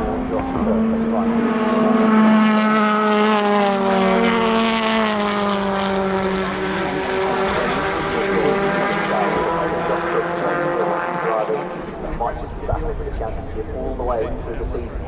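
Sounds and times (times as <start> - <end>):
racing car engines passing: 0.0 - 15.0.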